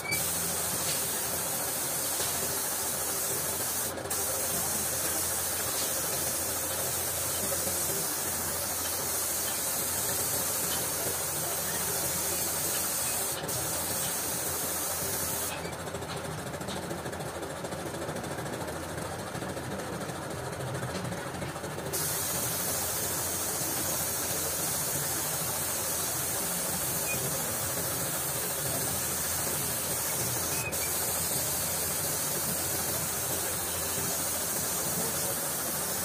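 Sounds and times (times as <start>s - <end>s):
spray gun hissing: 0.0s - 15.5s, 21.9s - 36.0s.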